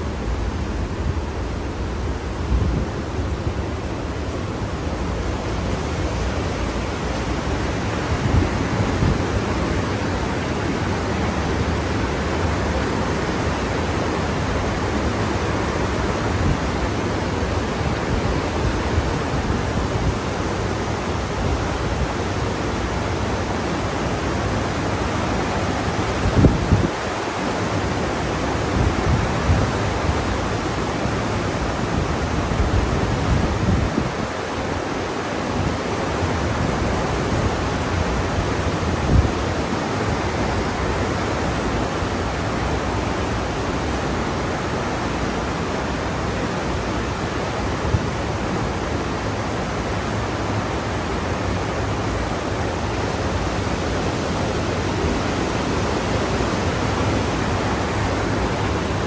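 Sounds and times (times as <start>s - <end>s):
water rushing in ship wake: 0.0s - 59.0s
wind gusts on microphone: 0.0s - 59.0s.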